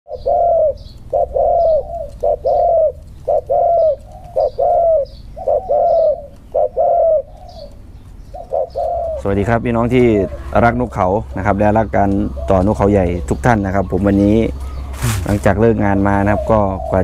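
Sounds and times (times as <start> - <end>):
dove cooing: 0.1 - 17.0.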